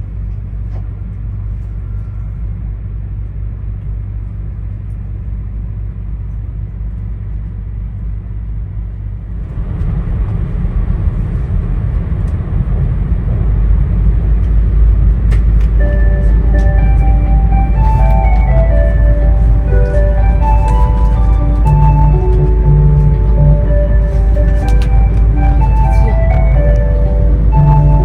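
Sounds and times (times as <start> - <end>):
train running rumble with hiss: 0.0 - 28.0.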